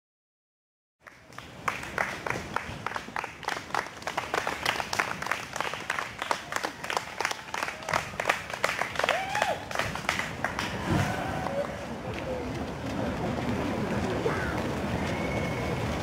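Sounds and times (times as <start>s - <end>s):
crowd clapping: 1.0s - 16.0s.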